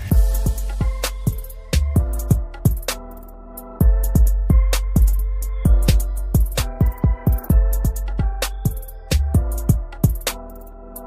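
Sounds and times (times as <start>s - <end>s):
electronic music with drum-machine beat: 0.0s - 11.0s.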